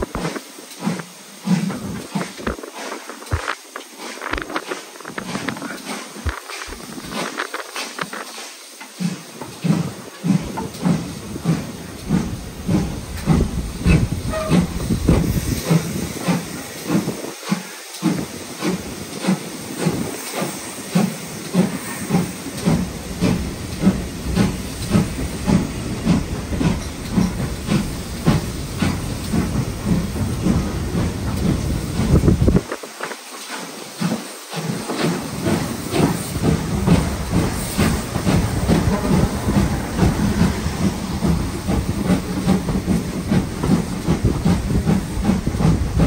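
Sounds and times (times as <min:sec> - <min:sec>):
steam hissing: 0:00.0 - 0:46.0
steam locomotive exhaust beats: 0:00.0 - 0:46.0.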